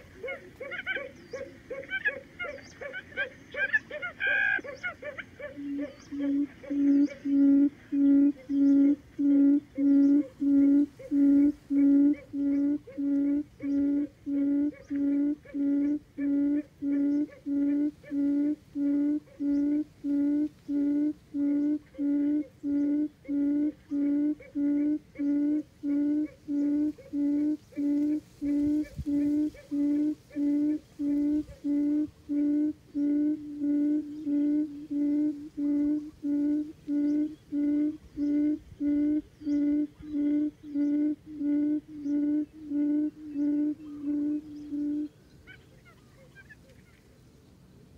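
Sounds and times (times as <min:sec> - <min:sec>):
quail hooting: 0:00.0 - 0:47.0.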